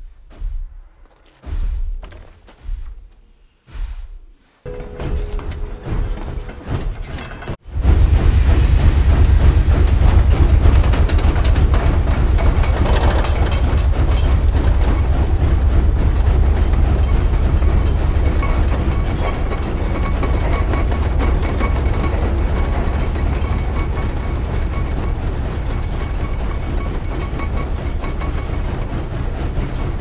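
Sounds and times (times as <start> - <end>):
steam train rumble and rail clatter: 4.3 - 30.0.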